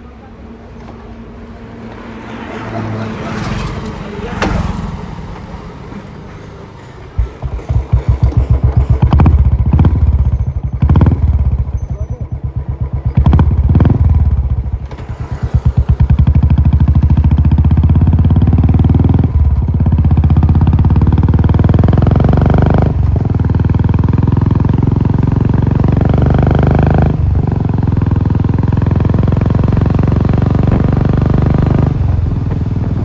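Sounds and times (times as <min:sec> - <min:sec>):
motorcycle engine accelerating: 0:01.8 - 0:33.0.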